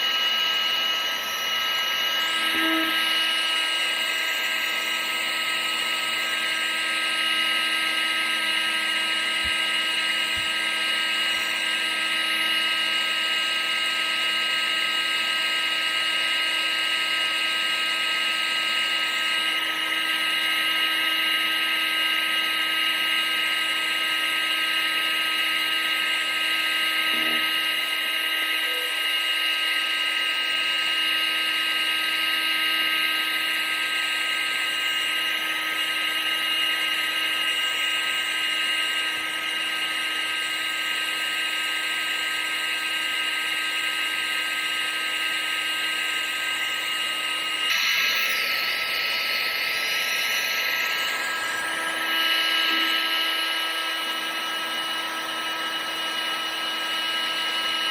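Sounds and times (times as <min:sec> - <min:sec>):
vacuum cleaner motor running: 0:00.0 - 0:57.9.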